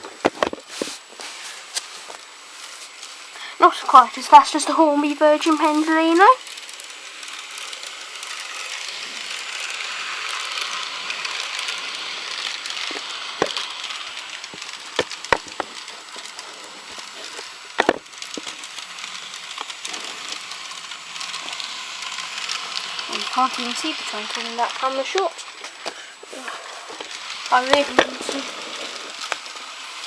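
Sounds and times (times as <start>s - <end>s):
model train whirring: 0.0s - 30.0s.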